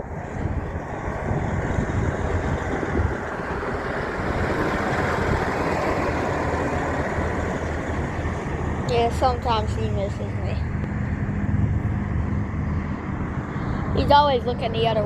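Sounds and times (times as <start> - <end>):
heavy truck driving by: 0.0 - 15.0.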